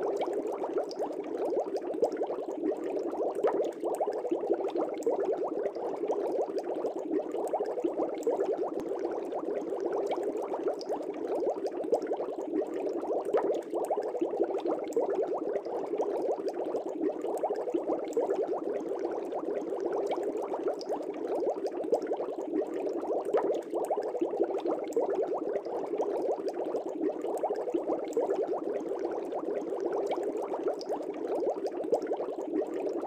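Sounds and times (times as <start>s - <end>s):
aquarium air bubbling: 0.0s - 33.0s.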